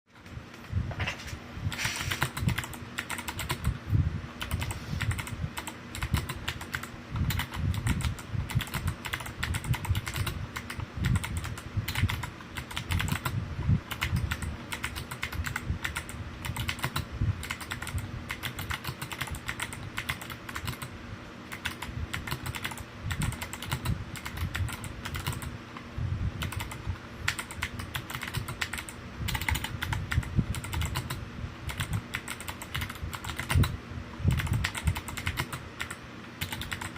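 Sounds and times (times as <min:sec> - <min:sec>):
fast typing on mechanical keyboard: 0:01.7 - 0:03.8, 0:04.4 - 0:20.9, 0:21.5 - 0:25.5, 0:26.4 - 0:36.9.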